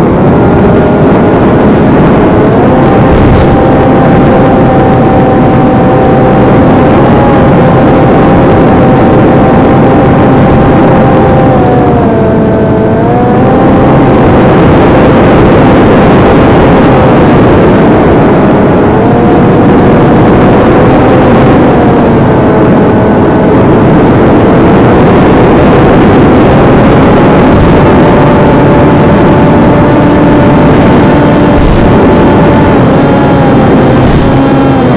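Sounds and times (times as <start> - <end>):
electric motor and propeller hum: 0.0 - 34.9
wind noise rushing: 0.0 - 34.9.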